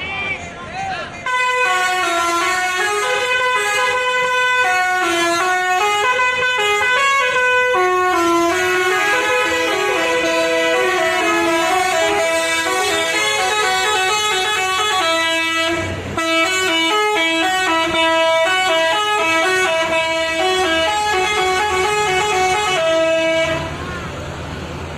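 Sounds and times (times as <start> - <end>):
musical bus air horn tune: 1.2 - 24.2.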